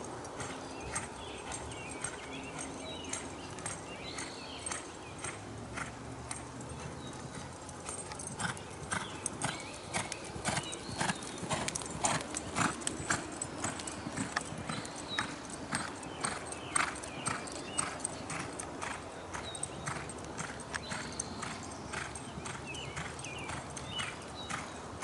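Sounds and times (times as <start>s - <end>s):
hoofbeats on soft dirt: 0.3s - 24.8s.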